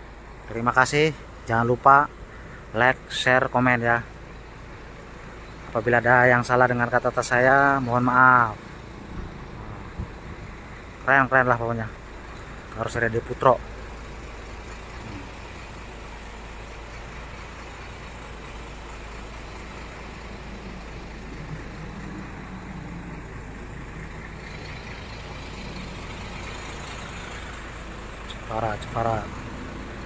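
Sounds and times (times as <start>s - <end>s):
bus diesel engine idling: 0.0s - 30.0s.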